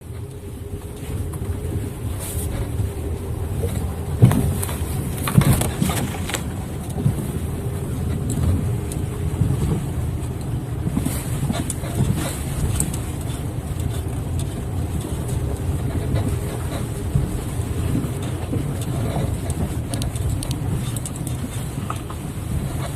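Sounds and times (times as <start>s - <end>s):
road and engine rumble: 0.0s - 22.9s.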